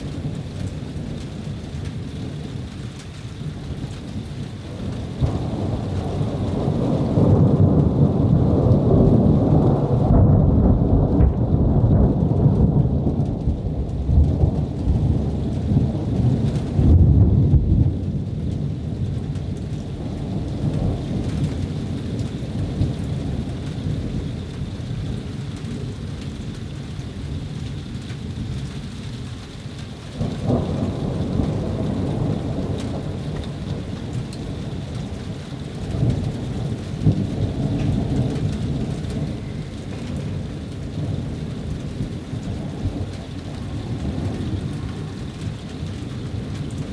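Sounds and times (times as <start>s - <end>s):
steady rain: 0.0s - 46.9s
thunder rumbling: 0.0s - 46.9s.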